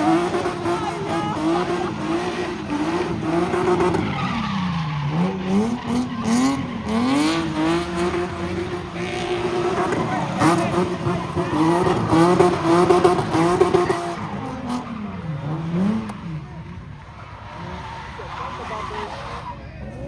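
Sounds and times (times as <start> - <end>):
tyres screeching: 0.0 - 16.4, 17.0 - 20.0
car engine revving high: 0.0 - 19.5.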